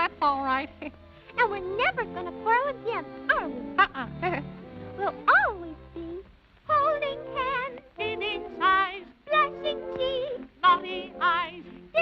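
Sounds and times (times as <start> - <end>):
cartoon voices singing with vibrato: 1.4 - 12.0.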